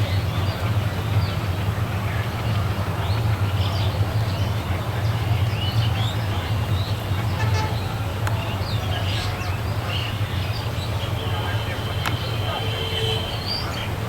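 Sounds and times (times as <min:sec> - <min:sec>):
birds chirping: 0:00.0 - 0:14.0
passing train rumble: 0:00.0 - 0:14.0.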